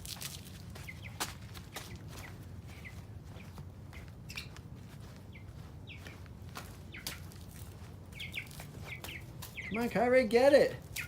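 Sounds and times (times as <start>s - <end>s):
scuffs and footsteps: 0.0s - 10.0s
chickens chirping: 0.7s - 11.0s.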